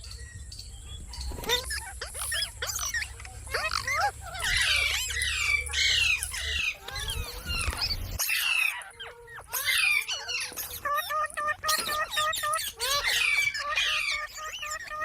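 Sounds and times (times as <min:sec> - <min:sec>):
parrots squawking and chattering: 0:00.0 - 0:15.0.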